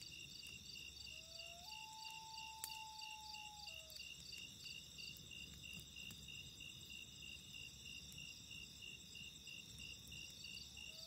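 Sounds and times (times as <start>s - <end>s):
campfire popping: 0.0s - 0.9s, 1.9s - 10.8s
crickets chirping: 0.0s - 11.0s.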